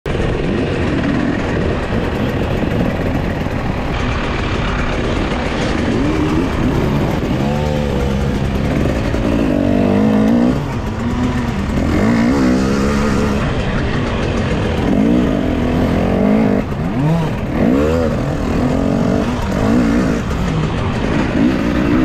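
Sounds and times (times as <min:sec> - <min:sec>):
motorcycle engine revving: 0:00.1 - 0:22.0.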